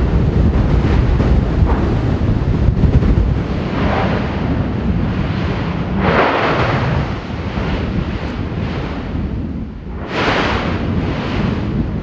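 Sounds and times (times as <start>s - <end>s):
low volcanic rumble: 0.0s - 12.0s
volcanic eruption blasts: 0.0s - 12.0s.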